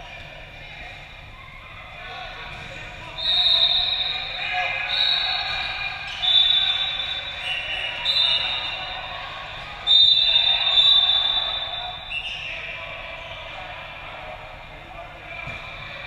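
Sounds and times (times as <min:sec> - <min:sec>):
players shouting in echoing hall: 0:00.0 - 0:16.0.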